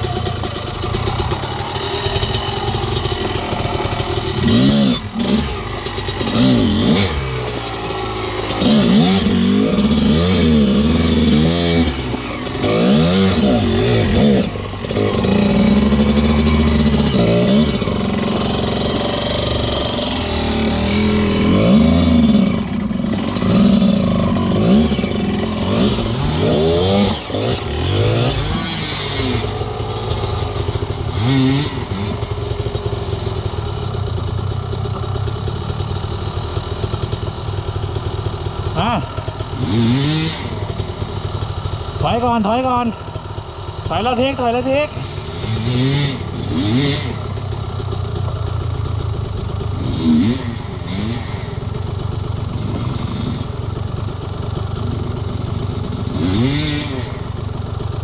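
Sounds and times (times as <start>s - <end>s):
dirt bike engine revving: 0.0s - 34.2s, 38.1s - 47.8s, 48.5s - 57.6s.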